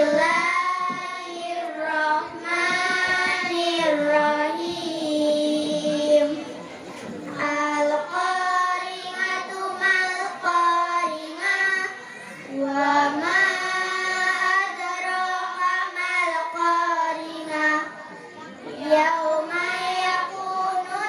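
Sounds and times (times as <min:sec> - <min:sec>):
girls chanting melodically: 0:00.0 - 0:21.0.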